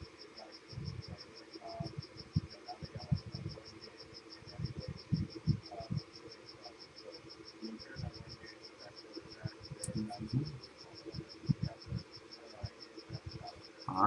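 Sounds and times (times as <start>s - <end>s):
rapid high-pitched chirping: 0.0s - 14.0s.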